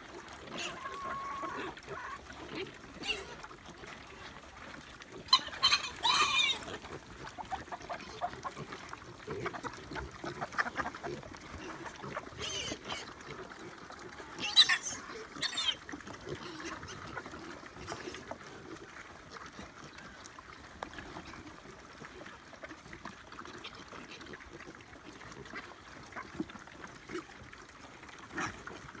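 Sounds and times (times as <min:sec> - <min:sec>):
boars chomping food: 0:00.0 - 0:29.0.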